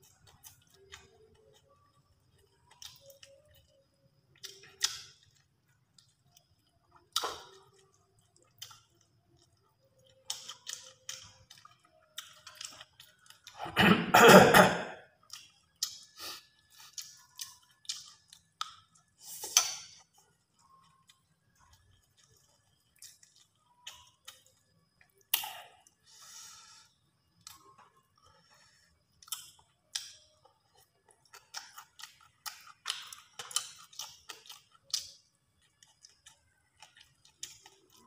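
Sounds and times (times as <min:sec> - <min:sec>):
mouth clicks and chewing: 0:00.0 - 0:13.7, 0:15.2 - 0:38.0.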